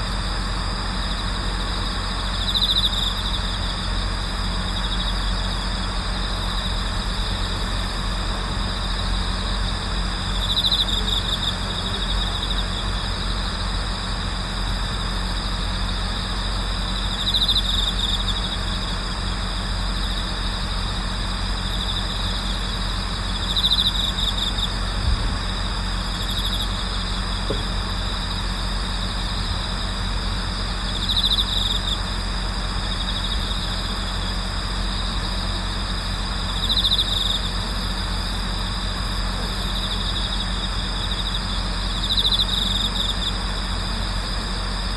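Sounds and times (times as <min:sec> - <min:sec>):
crickets trilling chorus: 0:00.0 - 0:44.9
louder nearer cricket trill: 0:00.0 - 0:44.9
steady low hum: 0:00.0 - 0:44.9.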